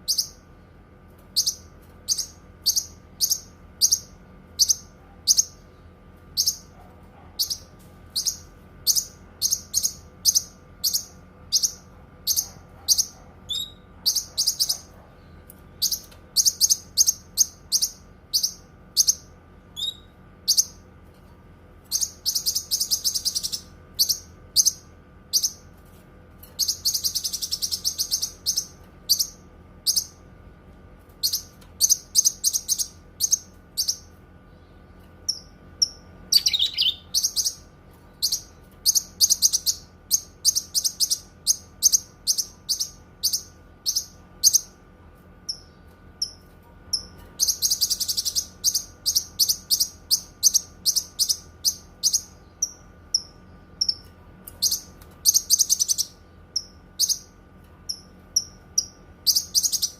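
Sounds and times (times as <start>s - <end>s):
songbird chirping and trilling: 0.0s - 0.5s, 1.3s - 6.8s, 7.4s - 20.9s, 21.8s - 25.7s, 26.5s - 30.3s, 31.2s - 44.8s, 45.4s - 59.9s.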